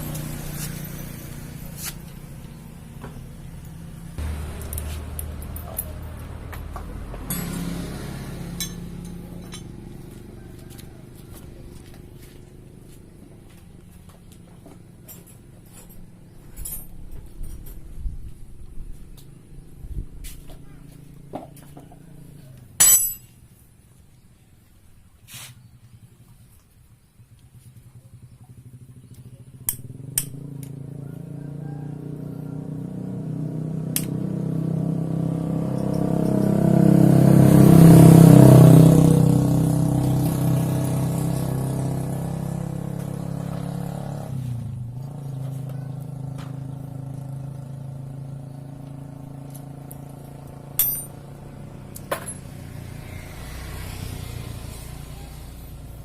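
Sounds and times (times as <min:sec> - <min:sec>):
vehicle engine passing by: 0:00.0 - 0:22.8, 0:27.0 - 0:56.0.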